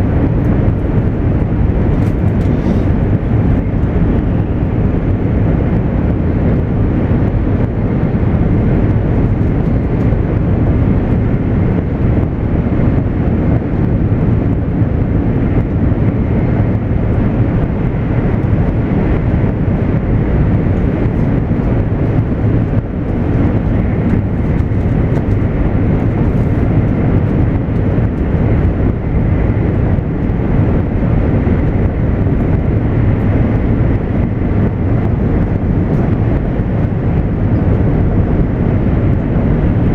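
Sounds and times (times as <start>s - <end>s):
rushing air: 0.0s - 39.9s
train wheels rumbling on rail: 0.0s - 39.9s.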